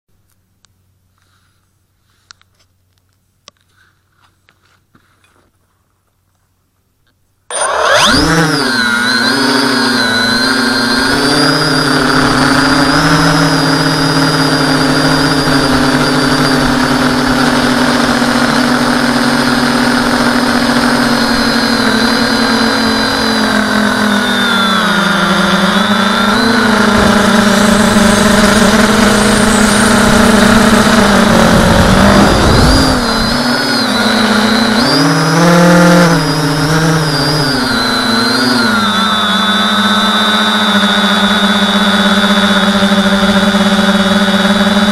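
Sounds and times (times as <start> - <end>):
propellers buzzing whine: 7.4 - 44.9.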